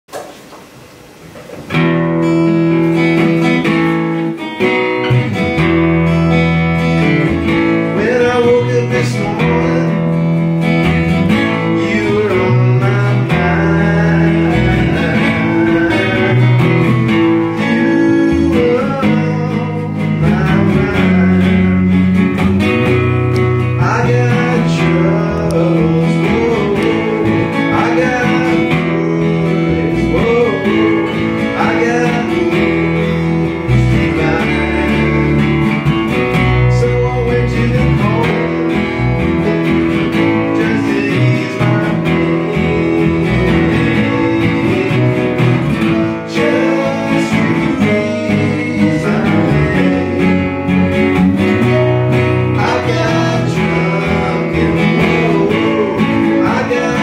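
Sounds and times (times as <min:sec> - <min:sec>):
strummed acoustic guitar: 0:01.2 - 0:57.0
electric bass: 0:01.7 - 0:57.0
keyboard: 0:01.7 - 0:57.0
man singing: 0:07.5 - 0:22.2, 0:23.6 - 0:57.0.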